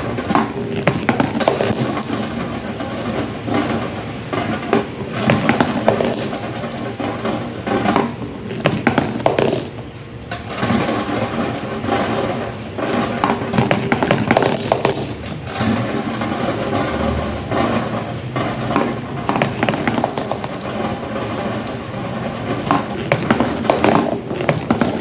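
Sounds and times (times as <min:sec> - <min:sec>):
marbles rolling and clattering: 0:00.0 - 0:25.0.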